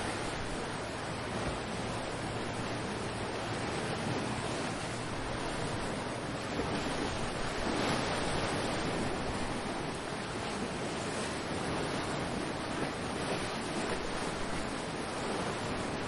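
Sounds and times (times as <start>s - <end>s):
ocean waves washing ashore: 0.0s - 16.0s
wind on microphone: 0.0s - 16.0s.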